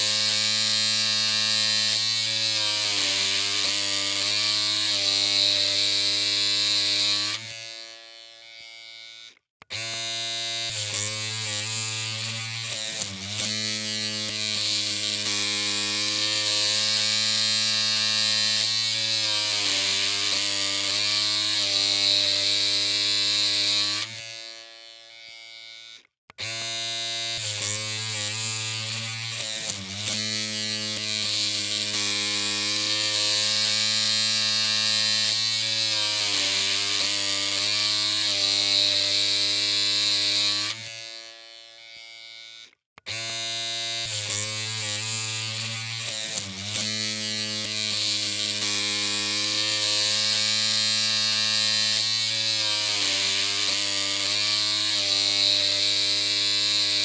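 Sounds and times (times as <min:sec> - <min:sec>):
electric hair clippers humming: 0:00.0 - 0:57.0.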